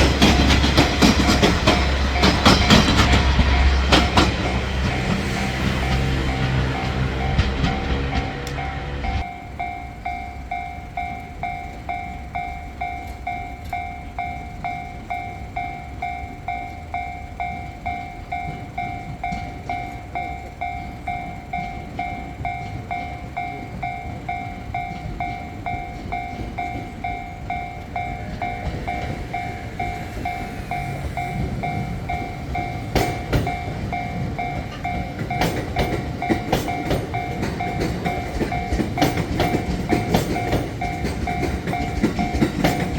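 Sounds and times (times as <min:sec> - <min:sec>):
level-crossing warning bell: 0:00.0 - 0:42.9
train approaching: 0:00.0 - 0:42.9
train wheels clacking on rails: 0:00.0 - 0:42.9.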